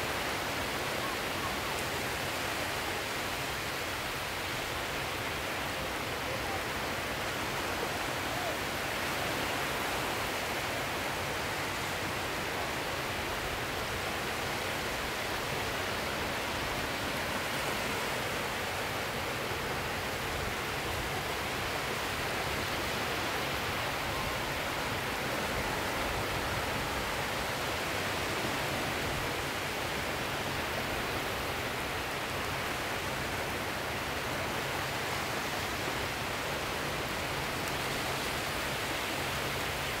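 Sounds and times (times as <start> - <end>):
sea surf rushing: 0.0 - 40.0.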